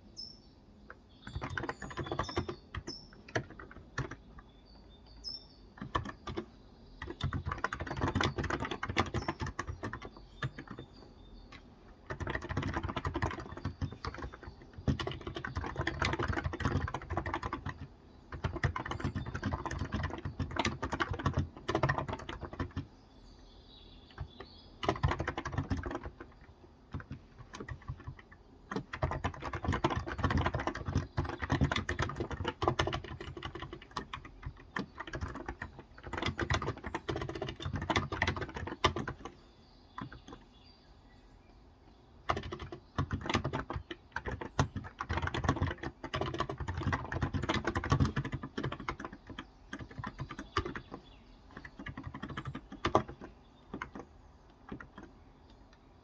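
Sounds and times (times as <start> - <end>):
keyboard typing: 0.8 - 4.9, 5.7 - 22.9, 24.1 - 39.4, 40.0 - 40.5, 42.2 - 55.8.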